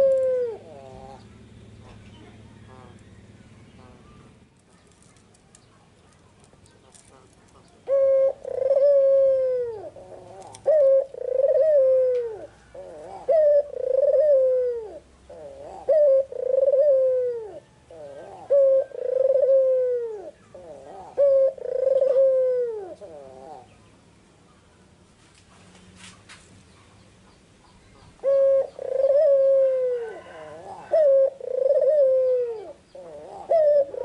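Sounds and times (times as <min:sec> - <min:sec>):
dove cooing: 0:00.0 - 0:05.3, 0:06.2 - 0:23.8, 0:28.0 - 0:34.0.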